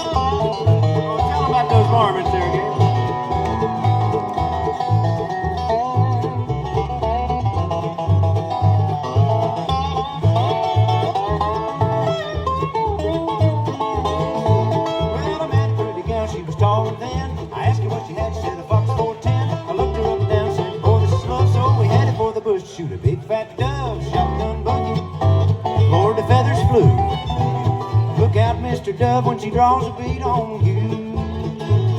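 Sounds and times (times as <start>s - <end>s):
alternating bass line: 0.0s - 22.3s, 23.6s - 31.9s
banjo: 0.0s - 31.9s
guitar: 0.0s - 31.9s.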